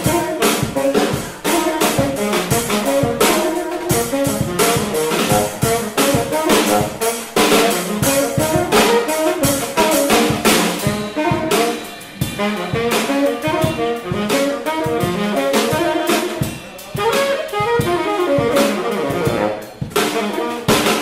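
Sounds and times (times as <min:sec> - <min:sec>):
drum kit and cymbals: 0:00.0 - 0:21.0
horns playing melody: 0:00.0 - 0:21.0.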